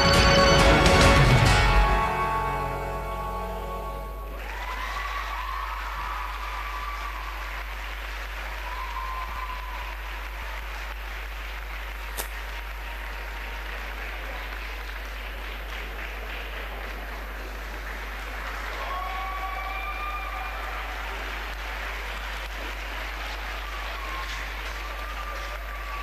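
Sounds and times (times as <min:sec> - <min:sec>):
audience applauding: 0:04.3 - 0:26.0.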